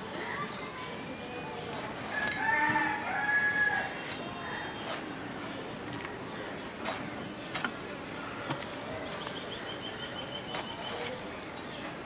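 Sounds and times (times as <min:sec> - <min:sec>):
rural outdoor background noise: 0:00.0 - 0:12.0.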